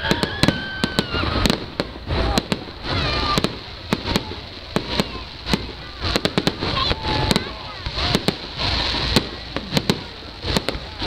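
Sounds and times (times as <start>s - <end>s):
continuous rumble: 0.0s - 11.0s.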